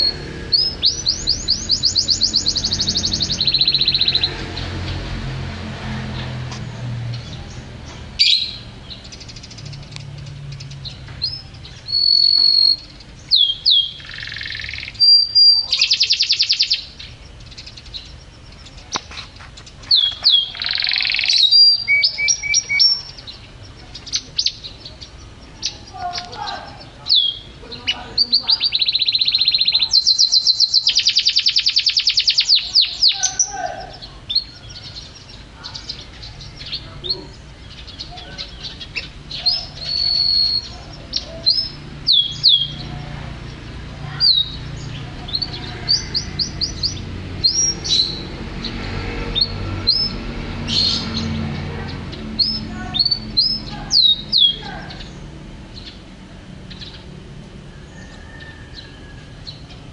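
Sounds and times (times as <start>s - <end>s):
canary singing trills and chirps: 0.0s - 59.9s.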